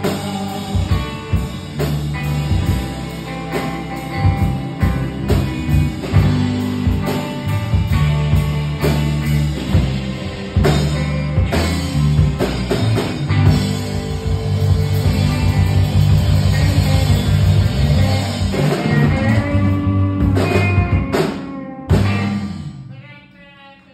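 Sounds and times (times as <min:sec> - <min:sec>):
drum kit: 0:00.0 - 0:23.2
electric guitars: 0:00.0 - 0:23.2.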